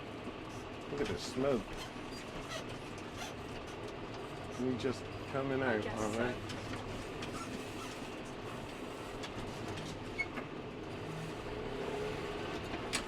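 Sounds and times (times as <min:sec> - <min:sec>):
tractor engines running: 0:00.0 - 0:13.0.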